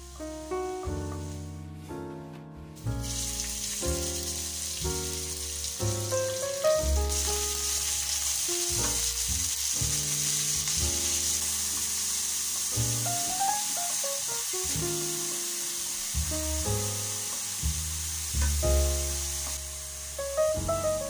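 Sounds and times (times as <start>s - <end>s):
piano music: 0.0s - 21.0s
chicken frying in oil: 3.0s - 21.0s.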